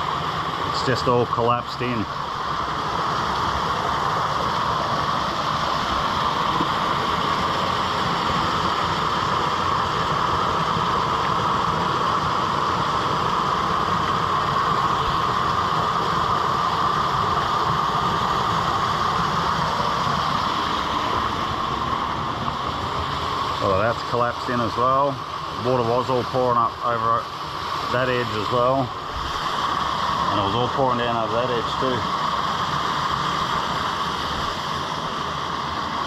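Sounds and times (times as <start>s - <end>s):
creek water rushing over rocks: 0.0s - 36.0s.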